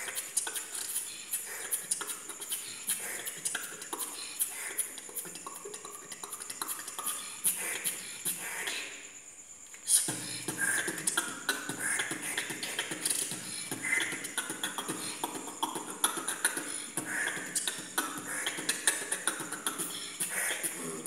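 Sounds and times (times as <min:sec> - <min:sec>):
person beatboxing: 0:00.0 - 0:08.9, 0:09.8 - 0:21.0.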